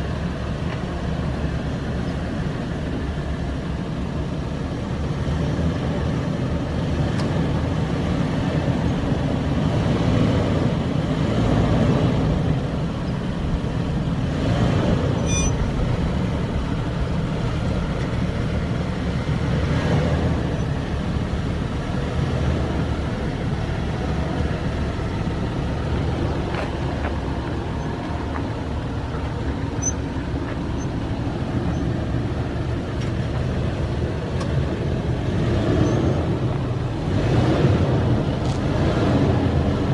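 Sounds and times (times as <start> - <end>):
truck engine low rumble: 0.0 - 39.9.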